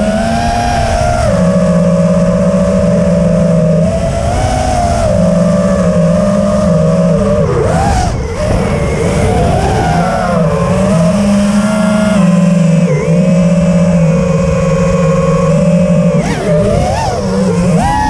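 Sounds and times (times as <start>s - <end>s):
drone motors whining: 0.0s - 18.0s
wind rush: 2.2s - 18.0s.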